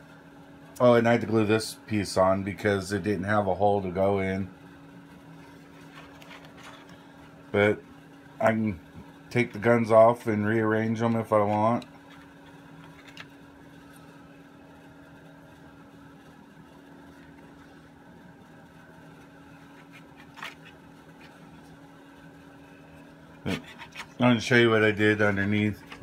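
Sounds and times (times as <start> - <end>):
room hum: 0.0 - 26.0.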